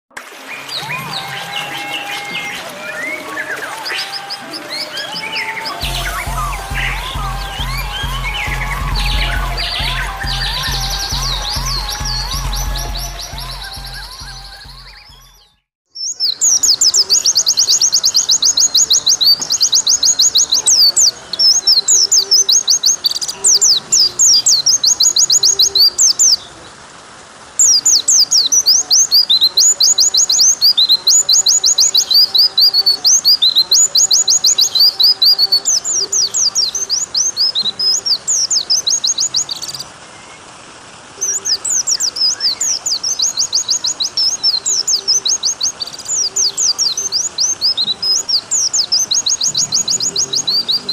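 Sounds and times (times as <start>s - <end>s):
running water hiss: 0.2s - 14.3s, 16.0s - 50.9s
bird singing high chirping trills: 0.7s - 26.6s, 27.6s - 40.4s, 41.2s - 50.9s.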